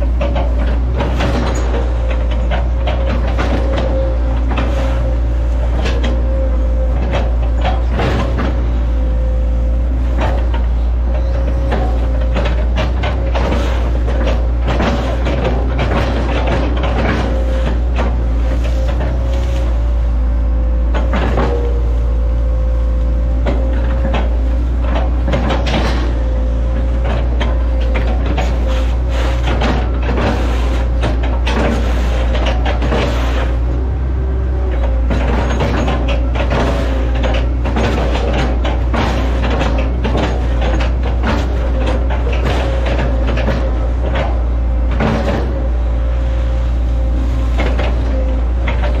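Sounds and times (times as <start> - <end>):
excavator diesel engine whining: 0.0 - 49.0
machine knocks and clunks: 0.0 - 49.0.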